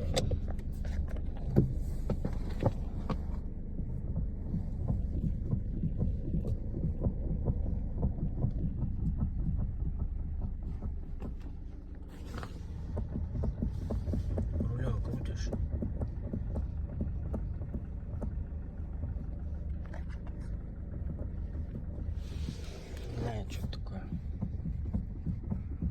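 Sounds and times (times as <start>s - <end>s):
low steady hum: 0.0s - 25.9s
suspension knocking and clicking: 0.0s - 25.9s.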